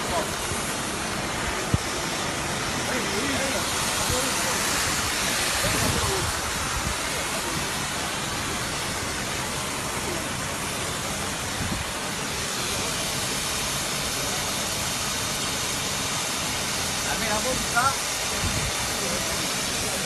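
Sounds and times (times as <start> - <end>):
motorised sprayer hissing: 0.0 - 20.0.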